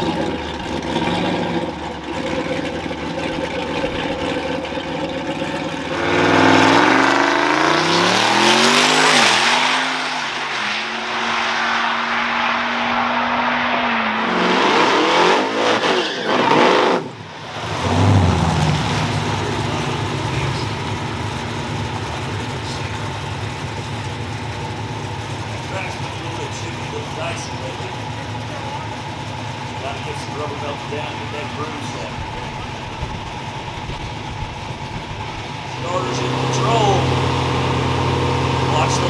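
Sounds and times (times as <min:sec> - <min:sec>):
car engine idling: 0:00.0 - 0:12.2, 0:16.9 - 0:39.0
drag car engines revving: 0:00.0 - 0:39.0.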